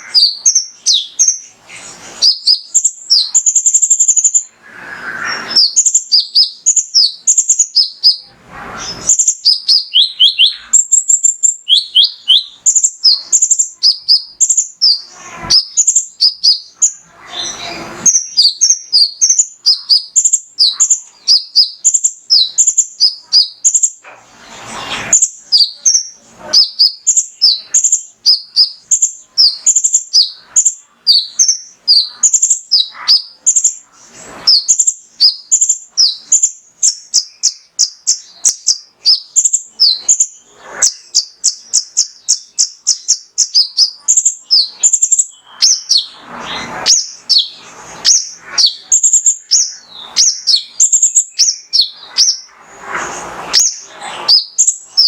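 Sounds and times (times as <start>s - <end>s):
bird chirping high notes: 0.0s - 55.0s.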